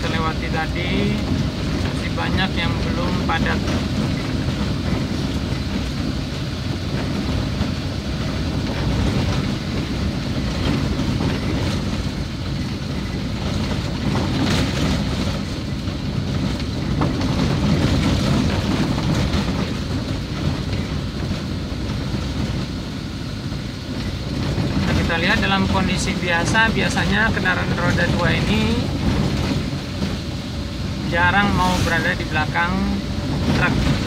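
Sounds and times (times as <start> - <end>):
vehicle rumbling on rough road: 0.0 - 34.0.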